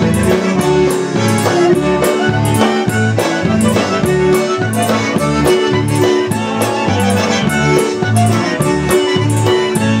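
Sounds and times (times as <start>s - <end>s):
concertina chords and melody: 0.0s - 10.0s
electric bass oom-pah: 0.0s - 10.0s.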